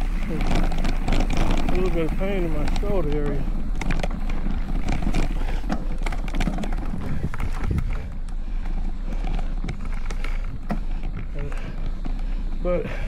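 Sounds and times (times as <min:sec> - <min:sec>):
bike clicks and rattles: 0:00.0 - 0:13.0
wind and tyres rumbling: 0:00.0 - 0:13.0.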